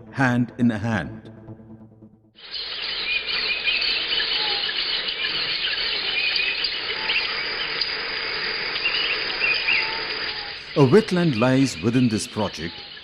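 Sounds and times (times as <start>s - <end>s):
chorus of birds chattering: 2.4s - 13.0s.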